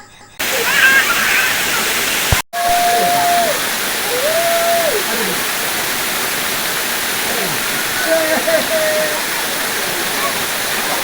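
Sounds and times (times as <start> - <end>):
waterfall rushing: 0.4 - 11.0.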